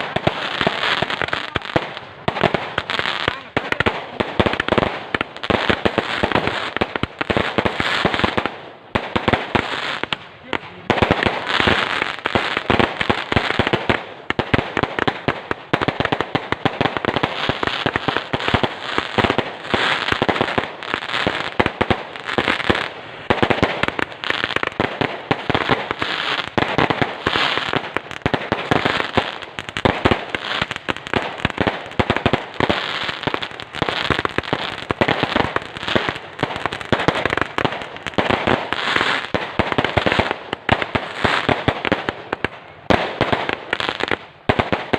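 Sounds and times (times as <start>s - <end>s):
fireworks banging and crackling: 0.0s - 44.9s.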